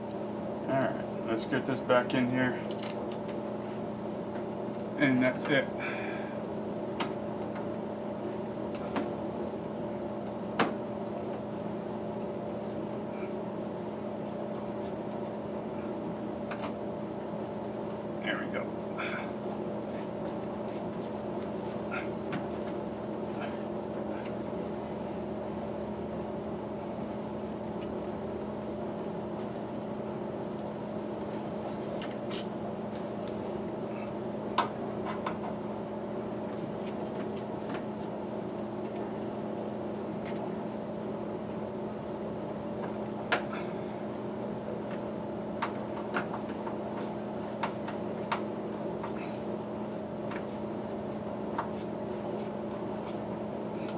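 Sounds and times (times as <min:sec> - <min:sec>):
steady droning hum: 0:00.0 - 0:53.9.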